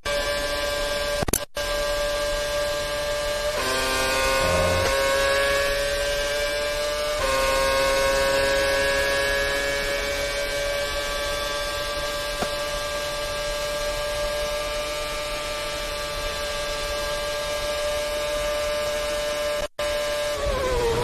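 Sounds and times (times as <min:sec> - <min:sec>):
racing car engine high revs: 0:00.1 - 0:21.0.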